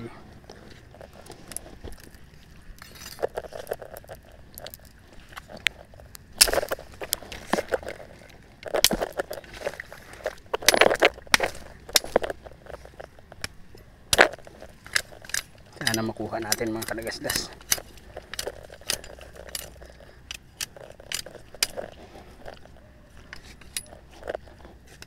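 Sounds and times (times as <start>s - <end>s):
rustling leaves: 0.0s - 25.0s.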